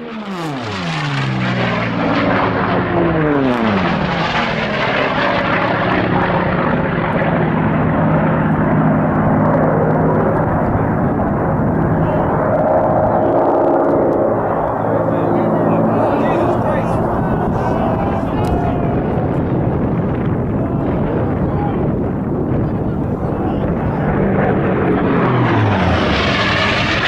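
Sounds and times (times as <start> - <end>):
loud steady engine drone: 0.0 - 27.0
propeller aircraft flying past: 0.0 - 27.0.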